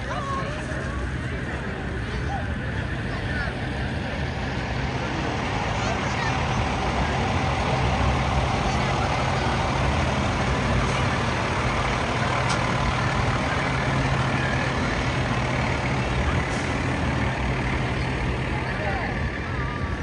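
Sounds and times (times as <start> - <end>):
street noise: 0.0 - 20.0
truck engine running: 0.0 - 20.0.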